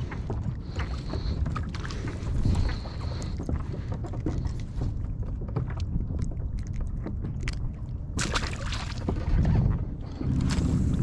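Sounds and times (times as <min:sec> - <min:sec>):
water lapping against hull: 0:00.0 - 0:11.0
wind buffeting microphone: 0:00.0 - 0:11.0.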